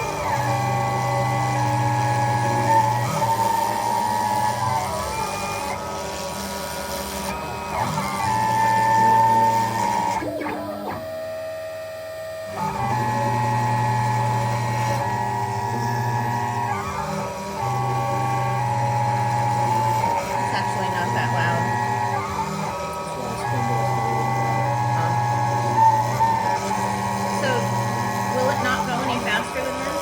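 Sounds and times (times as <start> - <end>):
cnc router whining: 0.0 - 30.0.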